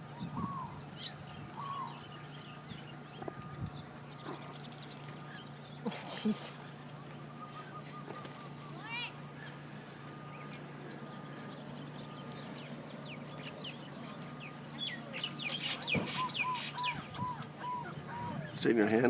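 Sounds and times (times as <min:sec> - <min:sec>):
small birds chirping: 0:00.0 - 0:19.0
steady low hum: 0:00.0 - 0:19.0
clear bird notes: 0:00.1 - 0:18.5.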